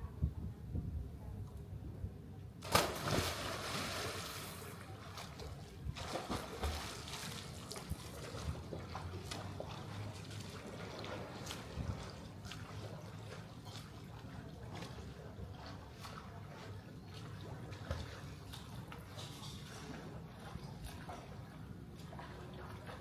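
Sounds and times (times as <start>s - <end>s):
pool water splashing: 2.6s - 23.0s.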